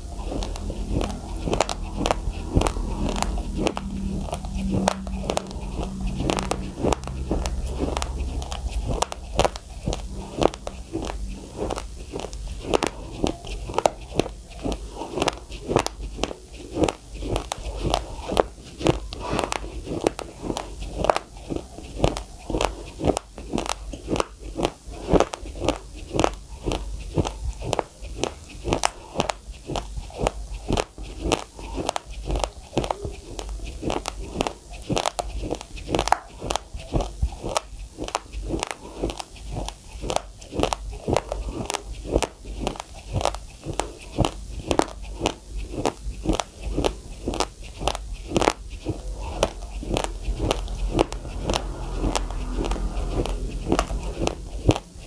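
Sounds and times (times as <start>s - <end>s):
dry rice crunching while chewed: 0.0s - 55.0s.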